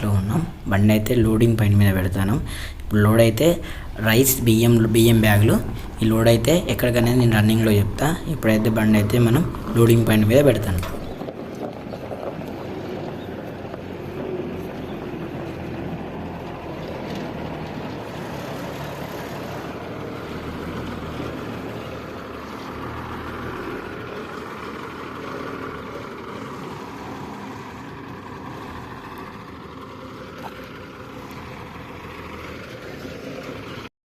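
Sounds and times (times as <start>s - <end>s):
diesel lorry engine running: 0.0s - 33.9s.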